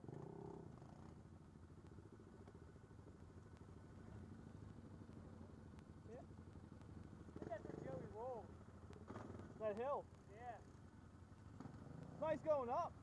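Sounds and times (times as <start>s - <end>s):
atv engines idling: 0.0s - 13.0s.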